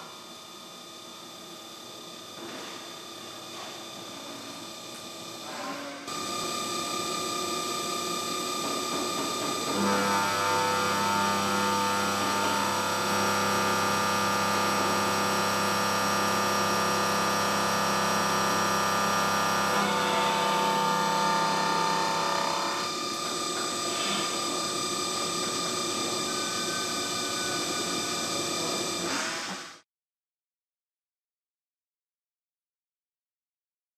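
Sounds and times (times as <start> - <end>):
milling machine whining: 0.0 - 29.8.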